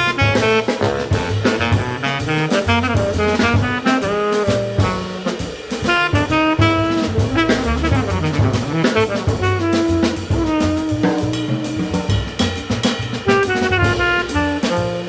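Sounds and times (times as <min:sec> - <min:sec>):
baritone saxophone: 0:00.0 - 0:15.0
double bass: 0:00.0 - 0:15.0
drum kit: 0:00.0 - 0:15.0
trumpet: 0:00.0 - 0:15.0.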